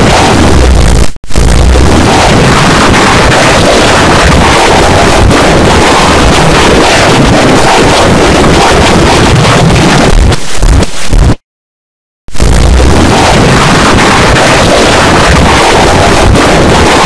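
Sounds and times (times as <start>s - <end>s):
distorted noise: 0.0s - 11.4s, 12.3s - 17.0s.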